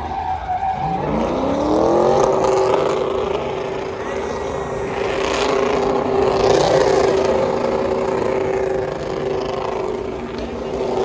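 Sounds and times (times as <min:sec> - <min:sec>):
engine running at high revs: 0:00.0 - 0:11.0
noisy background: 0:00.0 - 0:11.0.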